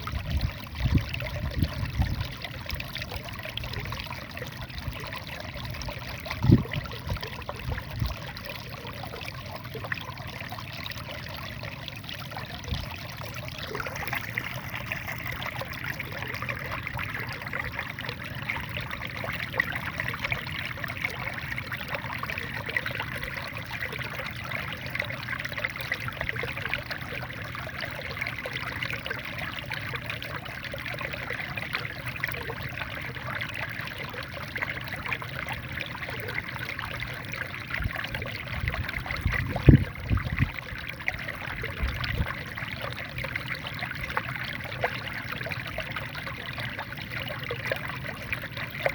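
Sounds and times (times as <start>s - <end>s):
water pouring and trickling: 0.0s - 48.9s.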